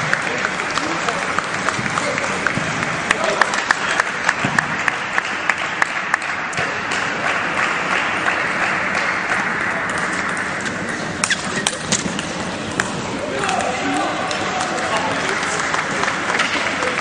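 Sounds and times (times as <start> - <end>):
applause and crowd noise: 0.0 - 17.0.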